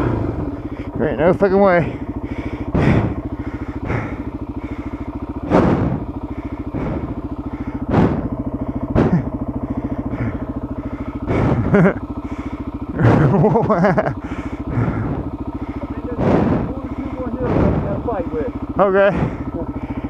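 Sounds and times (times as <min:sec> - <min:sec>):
motorcycle engine idling: 0:00.0 - 0:20.0
short loud engine bursts: 0:00.0 - 0:20.0.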